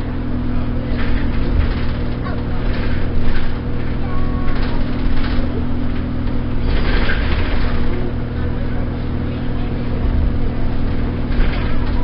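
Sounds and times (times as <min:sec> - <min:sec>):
bus engine hum with road noise: 0:00.0 - 0:12.0.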